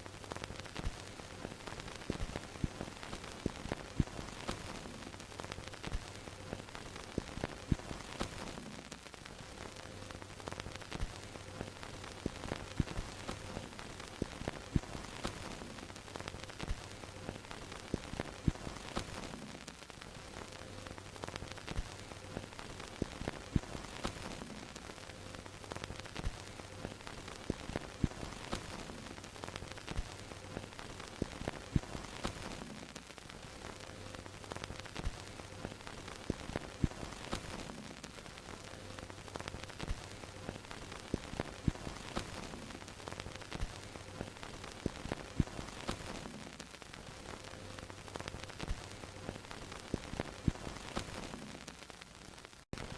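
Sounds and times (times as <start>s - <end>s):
film projector hiss with crackles: 0.0s - 52.9s.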